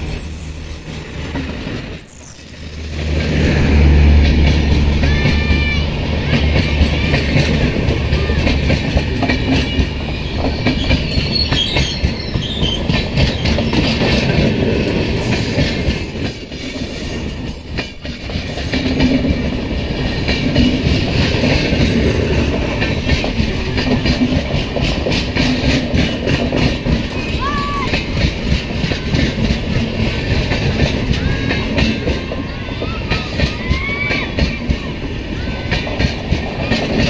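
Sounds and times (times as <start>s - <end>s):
train wheels rumbling: 0.0s - 37.0s
wheels clickety-clack over rails: 0.0s - 37.0s.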